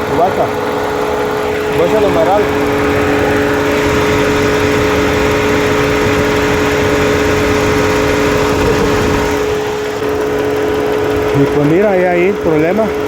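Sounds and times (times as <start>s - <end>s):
car engine idling with whine: 0.0s - 13.0s.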